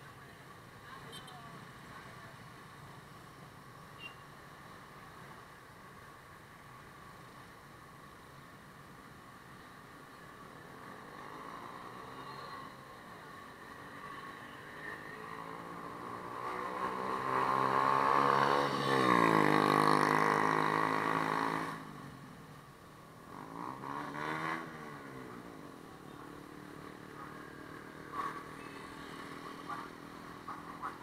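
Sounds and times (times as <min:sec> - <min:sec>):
road hum: 0:00.0 - 0:31.0
street traffic: 0:00.0 - 0:31.0.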